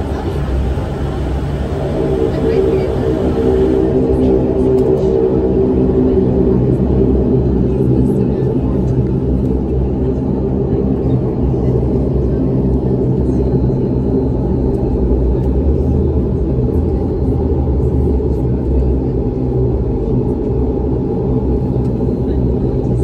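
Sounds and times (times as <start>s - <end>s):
airliner engines droning in cabin: 0.0s - 23.0s.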